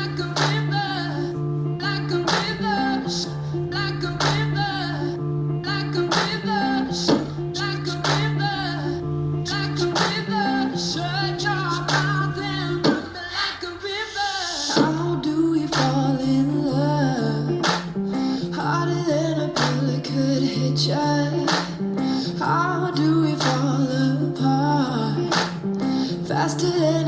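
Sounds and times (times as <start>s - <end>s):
rock song with guitar and vocals: 0.0s - 27.0s.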